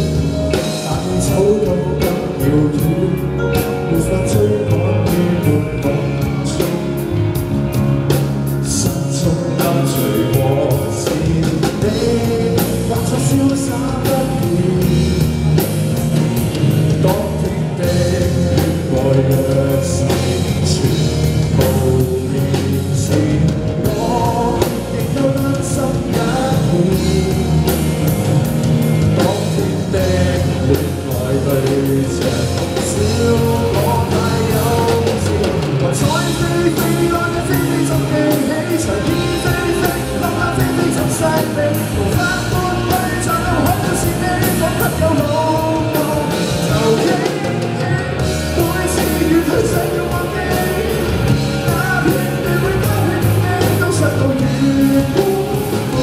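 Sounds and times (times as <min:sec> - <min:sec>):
bass guitar: 0:00.0 - 0:56.0
drum kit: 0:00.0 - 0:56.0
electric guitars: 0:00.0 - 0:56.0
man singing: 0:00.0 - 0:56.0.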